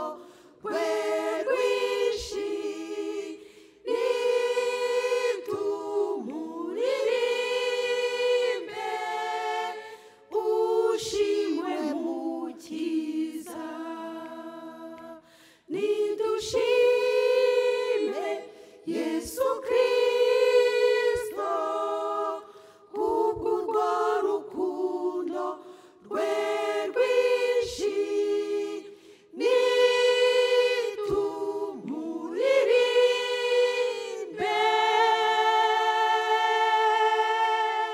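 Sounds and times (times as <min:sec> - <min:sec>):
choir singing unaccompanied: 0:00.0 - 0:37.9.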